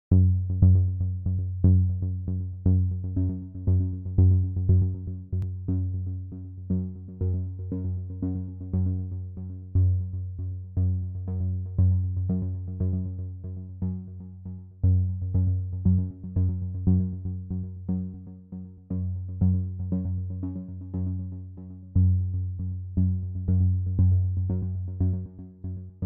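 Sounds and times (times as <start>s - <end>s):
electronic music with synthesizer pulse: 0.1s - 26.0s
steady bass: 0.1s - 26.0s.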